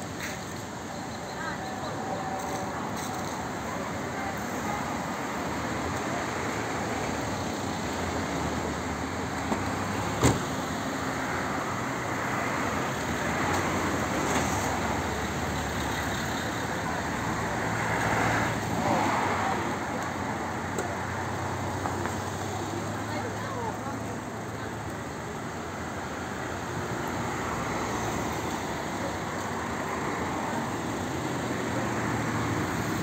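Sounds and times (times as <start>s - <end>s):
cars driving by: 0.0s - 33.0s.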